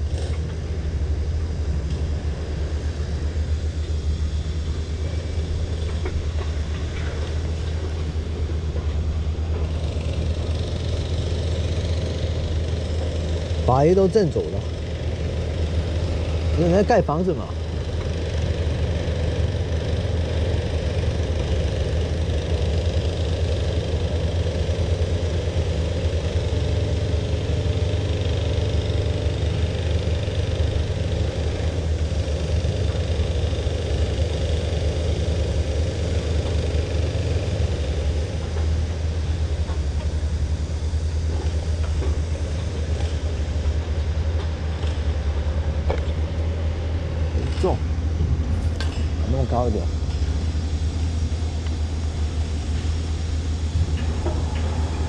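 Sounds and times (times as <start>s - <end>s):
construction machinery engine rumbling: 0.0s - 55.0s.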